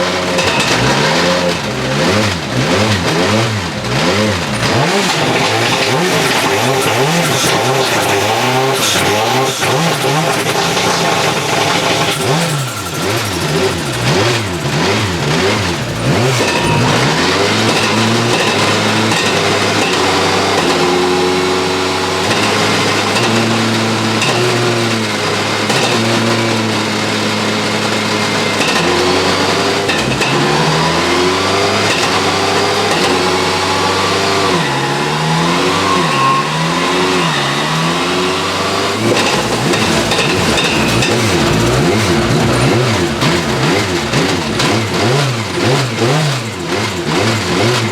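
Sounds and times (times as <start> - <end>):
rally car engine revving: 0.0 - 47.9
exhaust crackles and bangs: 0.1 - 34.1, 38.3 - 47.9.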